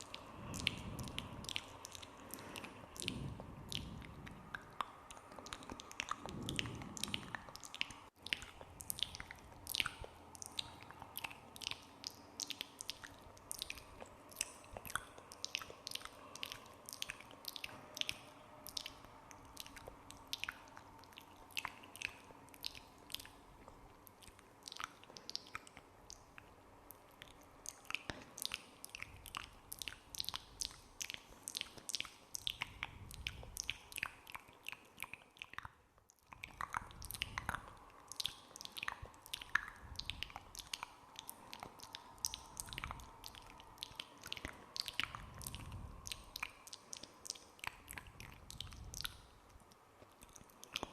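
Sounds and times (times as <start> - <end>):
wet mouth clicks and smacks: 0.0 - 50.9.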